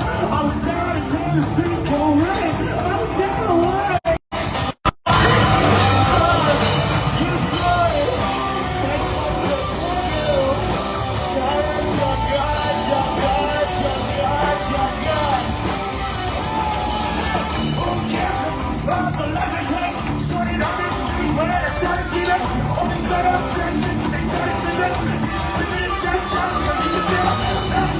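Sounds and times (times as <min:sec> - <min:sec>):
person singing: 0:00.0 - 0:04.2, 0:05.1 - 0:27.9
rock band playing live: 0:00.0 - 0:27.9.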